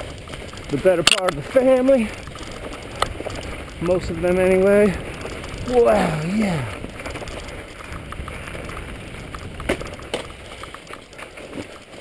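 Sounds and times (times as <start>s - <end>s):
bike knocking on rocks: 0.0s - 12.0s
bike rattling: 0.0s - 12.0s
bike tyres rolling: 0.0s - 12.0s.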